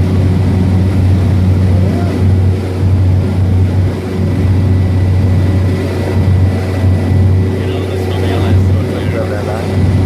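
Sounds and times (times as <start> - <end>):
propeller plane engine drone: 0.0 - 10.0.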